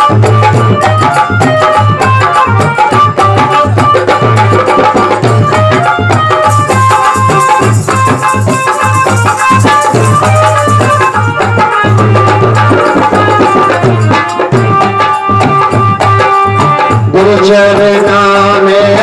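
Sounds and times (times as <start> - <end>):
devotional instrumental melody: 0.0 - 19.0
hand drum beat: 0.0 - 19.0
percussion: 0.0 - 19.0.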